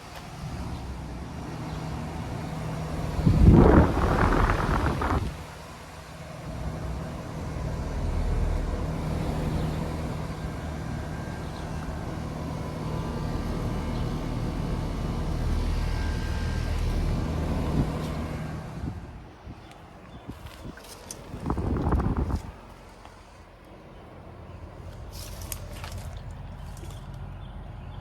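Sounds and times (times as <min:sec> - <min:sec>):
compressor hum: 0:00.0 - 0:28.0
condenser fan rushing: 0:00.0 - 0:28.0.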